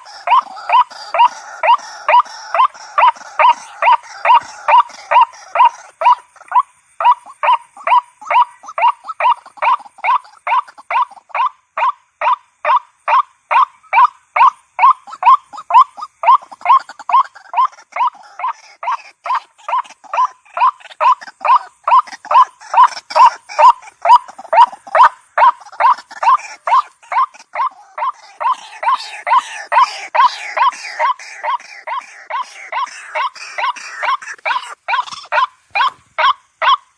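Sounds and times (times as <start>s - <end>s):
waterhen calling: 0.0s - 36.9s.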